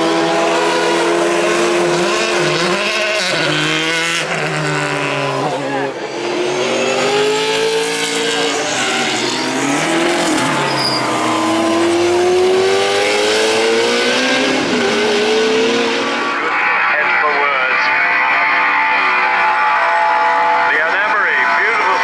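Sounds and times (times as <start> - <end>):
racing car engine accelerating: 0.0 - 22.0.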